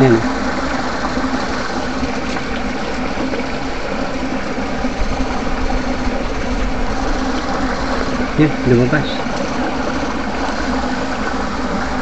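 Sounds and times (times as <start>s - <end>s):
electric fishing rig buzzing: 0.0s - 12.0s.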